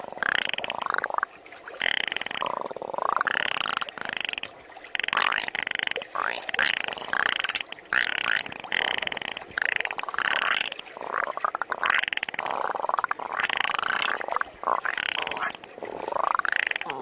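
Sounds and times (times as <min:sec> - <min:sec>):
person imitating frog croaks: 0:00.0 - 0:01.2, 0:01.8 - 0:04.4, 0:05.0 - 0:17.0.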